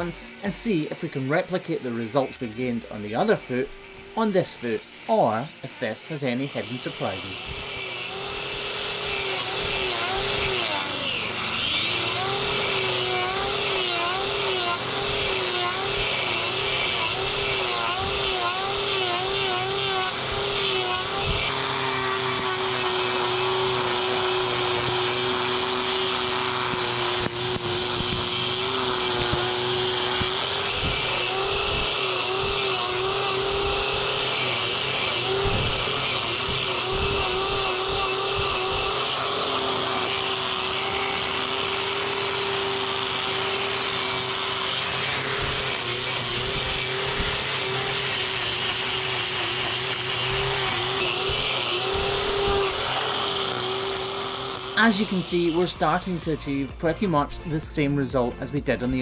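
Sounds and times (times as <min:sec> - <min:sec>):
angle grinder grinding hoof: 0:00.0 - 0:59.0.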